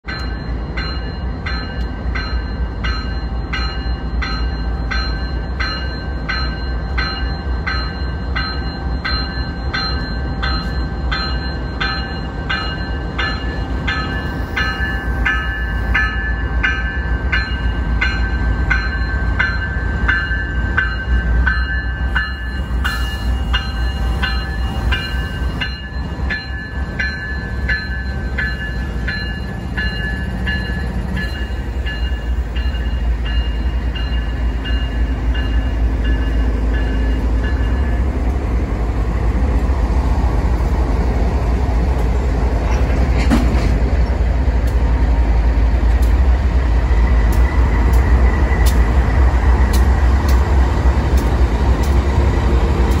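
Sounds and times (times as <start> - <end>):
diesel locomotives rumbling: 0.0 - 53.0.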